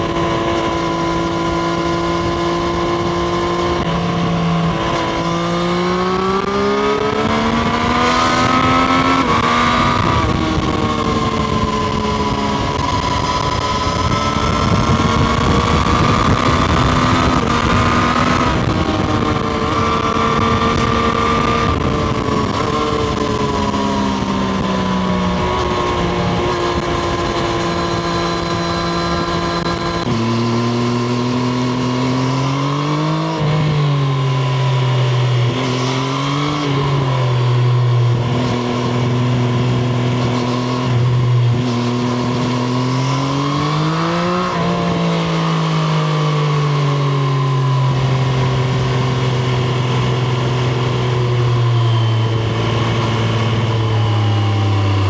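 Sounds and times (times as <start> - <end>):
wind rush: 0.0 - 45.6
motorcycle engine revving: 0.0 - 55.0.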